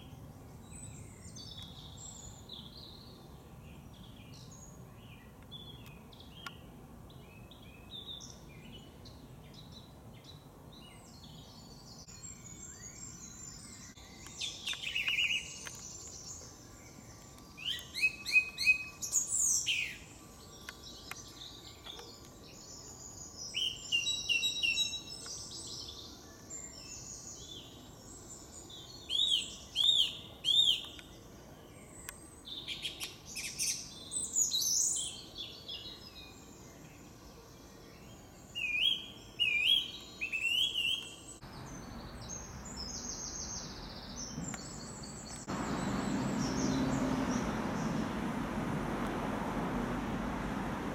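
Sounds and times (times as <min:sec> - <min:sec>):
faint background hiss: 0:00.0 - 0:50.9
songbirds singing: 0:00.0 - 0:50.9.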